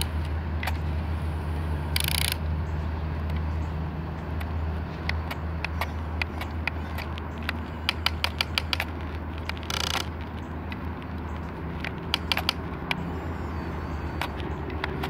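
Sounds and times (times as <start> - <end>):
toy tracks clicking and rattling: 0.0 - 2.4, 4.3 - 15.0
buzzing motor whir: 0.0 - 15.0.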